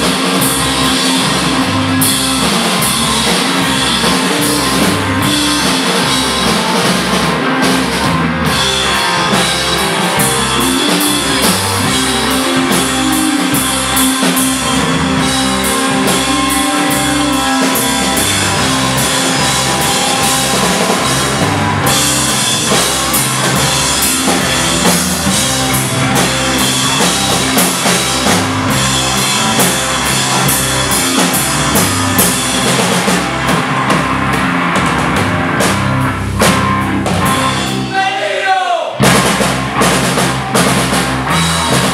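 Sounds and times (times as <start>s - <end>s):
electric guitar: 0.0s - 38.0s, 39.0s - 41.9s
electric bass: 0.0s - 38.1s, 39.0s - 41.9s
drum kit pounding: 0.0s - 41.9s.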